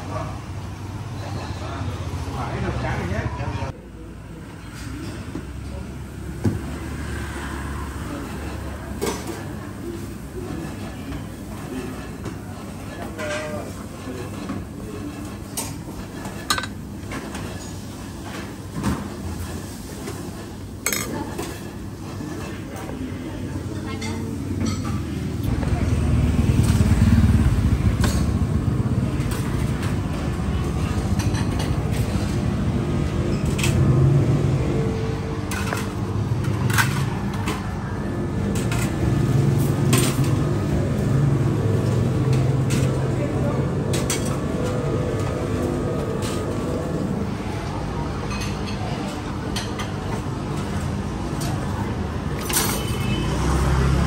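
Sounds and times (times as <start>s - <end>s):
low mechanical hum: 3.3s - 54.0s.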